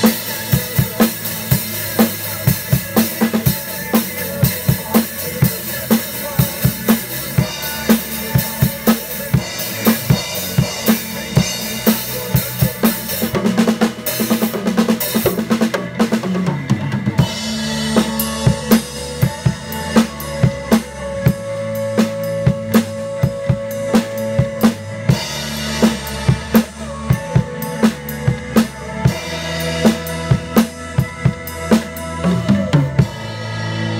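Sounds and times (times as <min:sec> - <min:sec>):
acoustic drum kit beat: 0:00.0 - 0:33.9.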